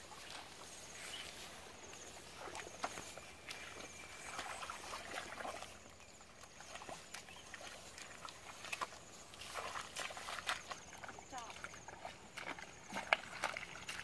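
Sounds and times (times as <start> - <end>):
feet squelching through mud: 0.0 - 14.0.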